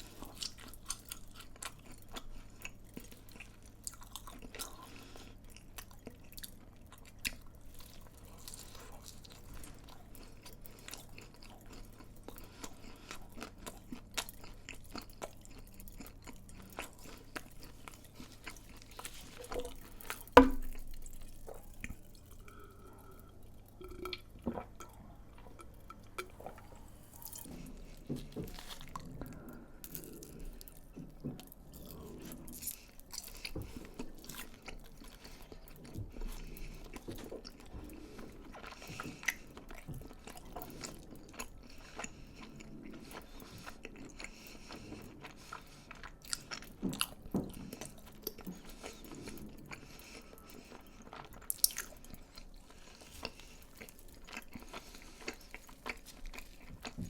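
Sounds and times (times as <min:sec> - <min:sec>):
chewing crunchy fried food: 0:00.0 - 0:57.0.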